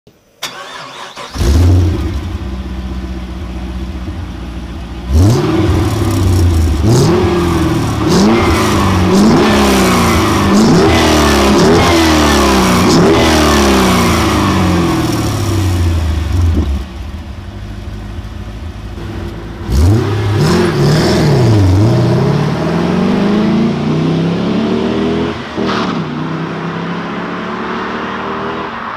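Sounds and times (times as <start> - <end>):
car engine idling and revving: 0.4 - 28.9.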